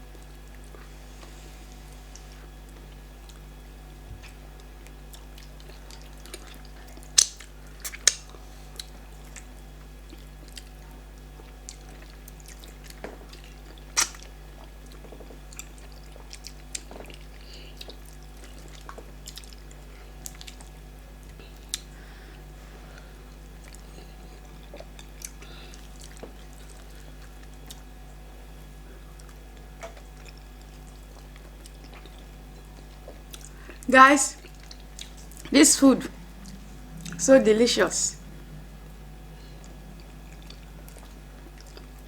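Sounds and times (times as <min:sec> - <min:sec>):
low steady hum: 0:00.0 - 0:42.0
chewing: 0:00.1 - 0:27.9, 0:29.0 - 0:37.2, 0:38.2 - 0:42.0.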